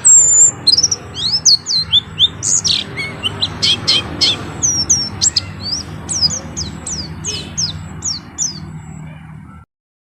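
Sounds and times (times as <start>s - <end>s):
bird singing high notes: 0.0s - 9.6s.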